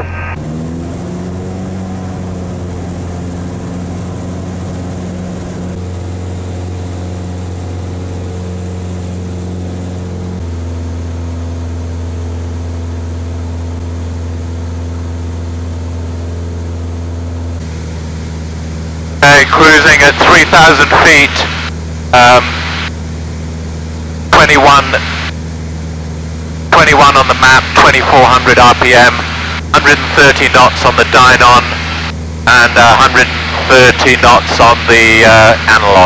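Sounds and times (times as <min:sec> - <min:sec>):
aircraft engine drone in cockpit: 0:00.0 - 0:36.0.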